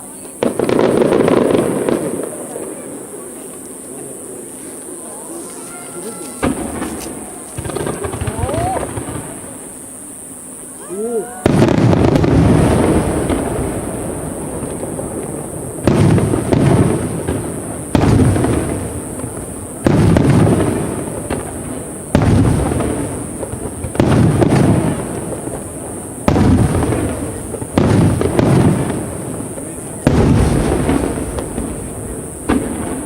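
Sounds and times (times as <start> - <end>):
firework shells booming: 0.3 - 4.5, 5.9 - 9.8, 11.4 - 33.0.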